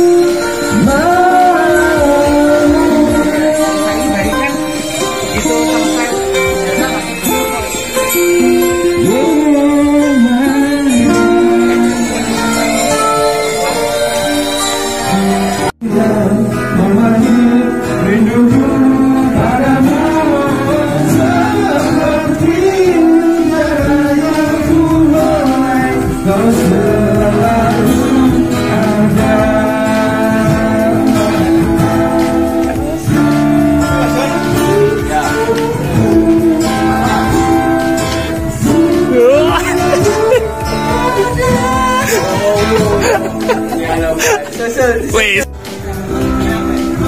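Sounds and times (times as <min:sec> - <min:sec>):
acoustic guitar playing: 0:00.0 - 0:47.0
man singing into microphone: 0:00.0 - 0:47.0
melody over loudspeakers: 0:00.0 - 0:47.0.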